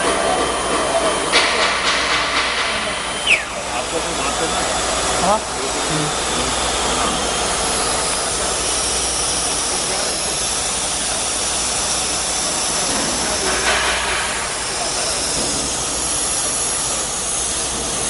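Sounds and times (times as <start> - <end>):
milling machine whooshing: 0.0 - 18.0.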